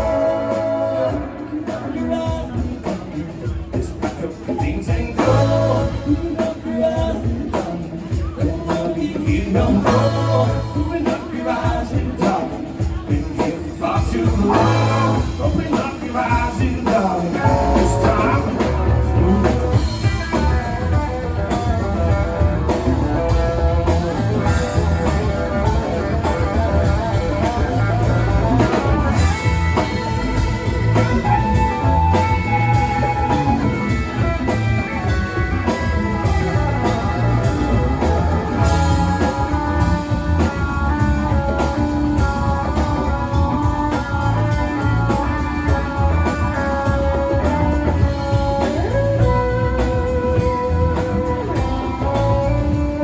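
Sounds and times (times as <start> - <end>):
bass guitar: 0.0 - 53.0
drum kit: 0.0 - 53.0
electric guitar lead: 0.0 - 53.0.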